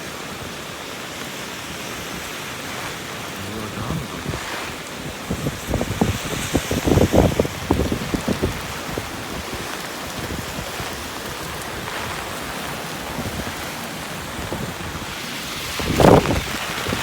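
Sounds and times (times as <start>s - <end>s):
heavy rain falling: 0.0s - 17.0s
wind buffeting microphone: 1.9s - 17.0s.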